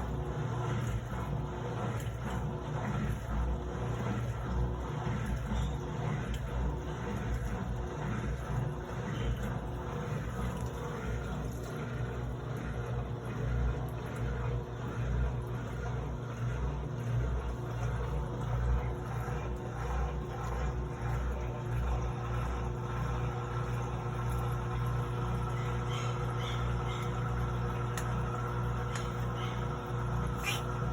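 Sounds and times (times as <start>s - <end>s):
washing machine motor hum: 0.0s - 30.9s.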